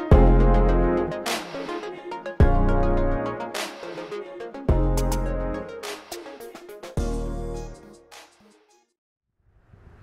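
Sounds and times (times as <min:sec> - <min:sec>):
electronic music: 0:00.0 - 0:08.9.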